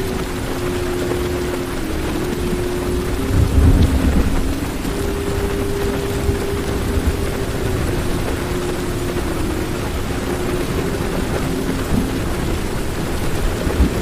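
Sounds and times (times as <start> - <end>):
faint steady hum: 0.0 - 14.0
heavy rain on car roof: 0.0 - 14.0
low rumble: 0.0 - 14.0.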